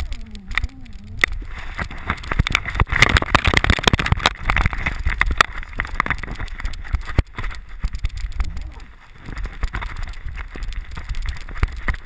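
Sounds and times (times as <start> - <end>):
microphone jostling: 0.0 - 12.0
wind rumble: 0.0 - 12.0.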